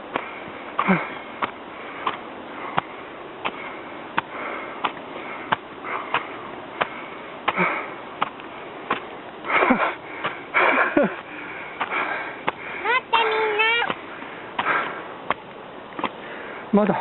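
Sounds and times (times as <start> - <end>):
person breathing: 0.1 - 15.2, 16.1 - 17.0.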